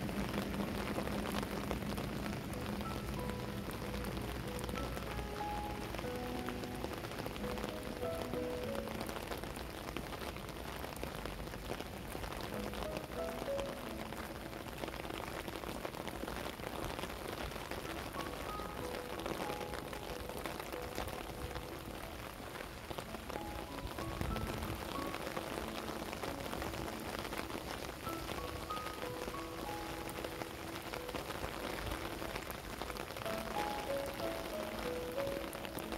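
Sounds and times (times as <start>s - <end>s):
rain pattering: 0.0s - 35.9s
soft slow melodic music: 0.0s - 35.9s.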